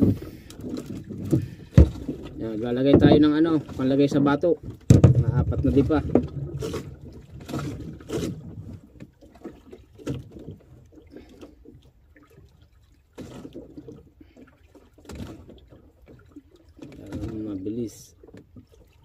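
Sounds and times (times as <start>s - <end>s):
water sloshing against boat hull: 0.0s - 19.0s.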